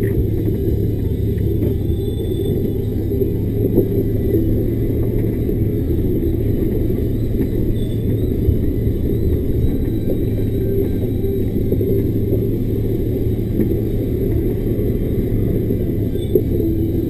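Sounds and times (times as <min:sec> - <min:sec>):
diesel truck engine drone: 0:00.0 - 0:17.0.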